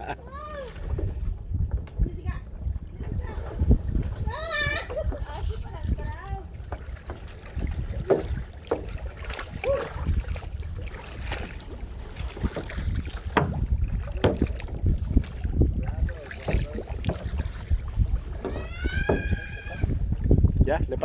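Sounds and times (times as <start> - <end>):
paddle strokes splashing: 0.0 - 20.6
wind on microphone: 0.0 - 21.0
paddle knocking against hull: 0.7 - 21.0.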